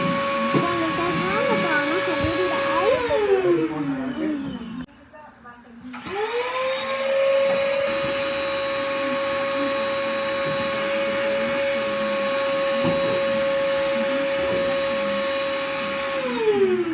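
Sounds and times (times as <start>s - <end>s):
vacuum cleaner running: 0.0s - 4.9s, 5.9s - 16.9s.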